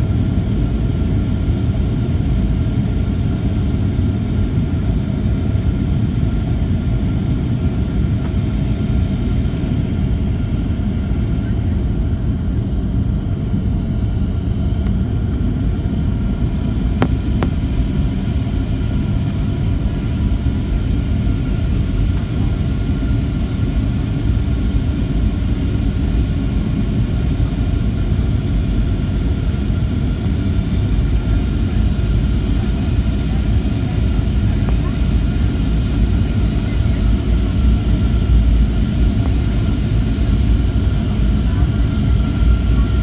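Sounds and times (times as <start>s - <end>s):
airplane cabin rumble: 0.0s - 43.0s.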